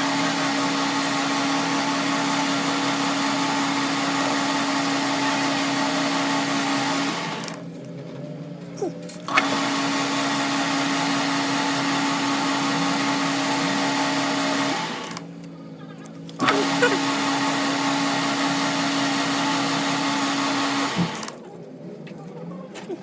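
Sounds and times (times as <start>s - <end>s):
electric power tool whining: 0.0s - 7.9s, 9.0s - 15.5s, 16.2s - 21.5s.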